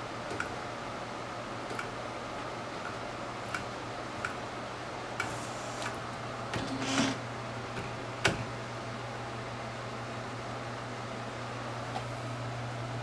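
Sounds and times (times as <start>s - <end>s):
printer humming: 0.0s - 13.0s.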